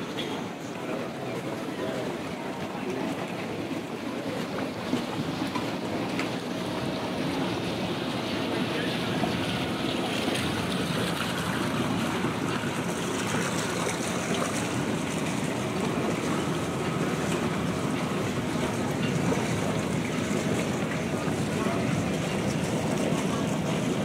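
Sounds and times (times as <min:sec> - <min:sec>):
rushing water: 0:00.0 - 0:24.0
wind: 0:00.0 - 0:24.0.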